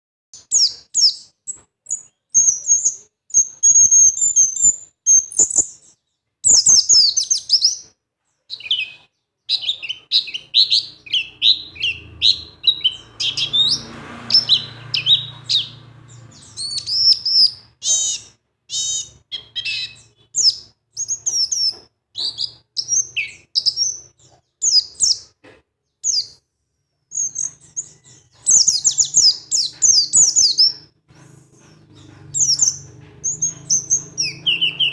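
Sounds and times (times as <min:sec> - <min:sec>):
birds chirping and tweeting: 0:00.4 - 0:34.9.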